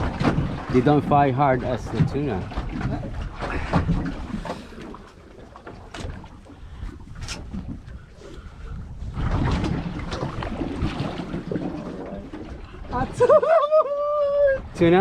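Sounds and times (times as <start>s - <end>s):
fishing boat rumbling on rough water: 0.0s - 15.0s.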